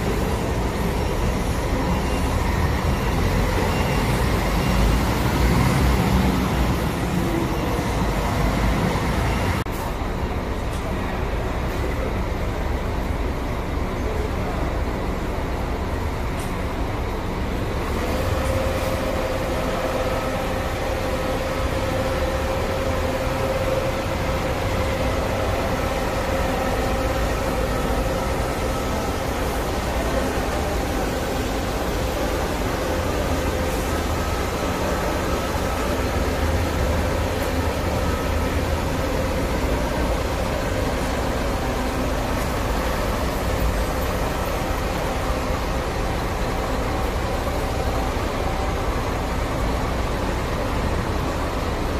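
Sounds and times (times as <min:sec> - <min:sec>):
buses and road traffic: 0:00.0 - 0:51.9
steady mechanical whine: 0:00.0 - 0:51.9.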